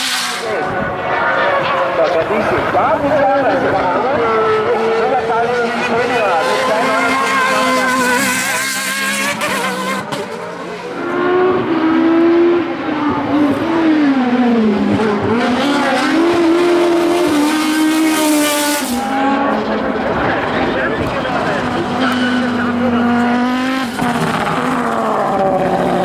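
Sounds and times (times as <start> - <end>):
racing car engine accelerating: 3.6 - 26.0.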